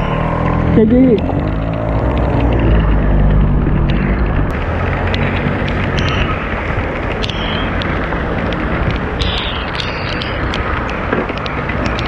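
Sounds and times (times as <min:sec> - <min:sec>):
wind noise on microphone: 0:00.6 - 0:12.0
raindrops ticking on camera: 0:01.0 - 0:12.0.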